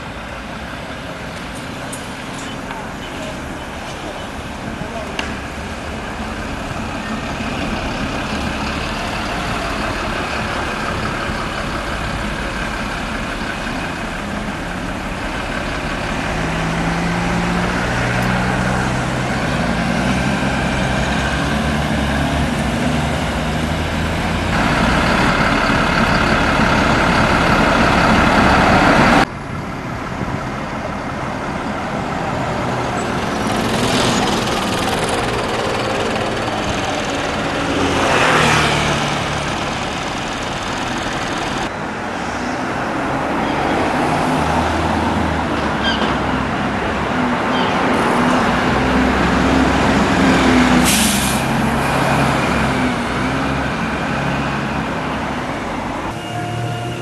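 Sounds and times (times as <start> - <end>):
bus engines passing: 0.0 - 57.0
street traffic: 0.0 - 57.0.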